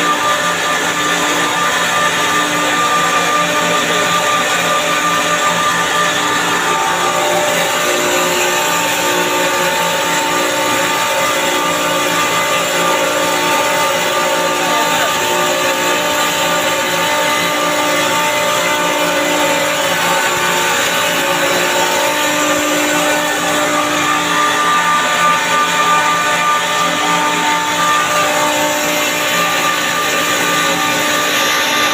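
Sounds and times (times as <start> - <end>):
chiller compressor running: 0.0 - 31.9.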